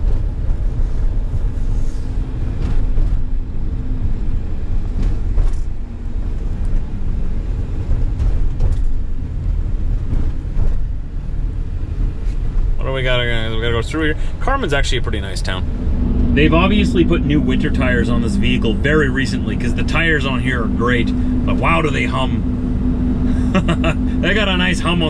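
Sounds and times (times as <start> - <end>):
engine and tire rumble: 0.0 - 25.0
tires humming on road: 0.0 - 25.0.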